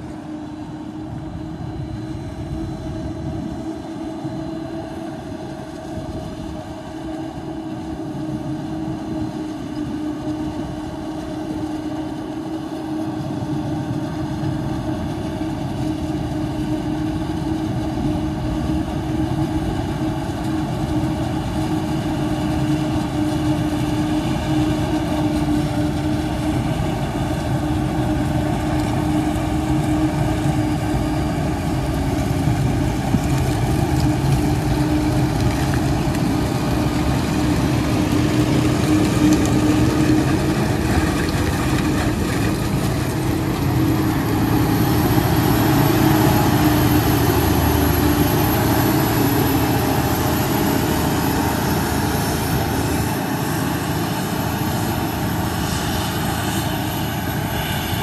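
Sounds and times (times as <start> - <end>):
heavy machinery engines and tyres: 0.0 - 58.0
tractor diesel engine running: 0.0 - 58.0.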